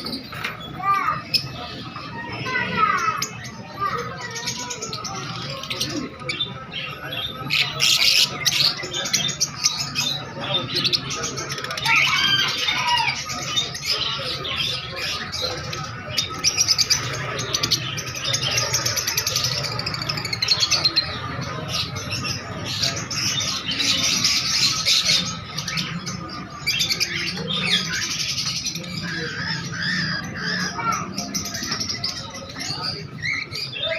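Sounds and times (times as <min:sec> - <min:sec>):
cage birds chirping and squawking: 0:00.0 - 0:33.9.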